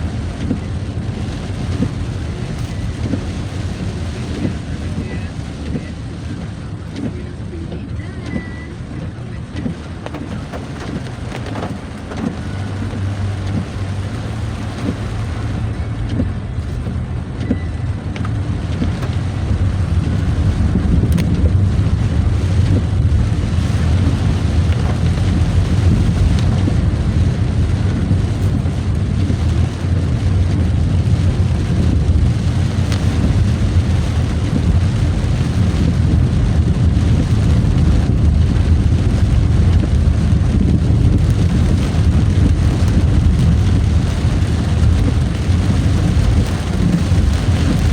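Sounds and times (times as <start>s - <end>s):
vehicle engine and road rumble: 0.0s - 47.9s.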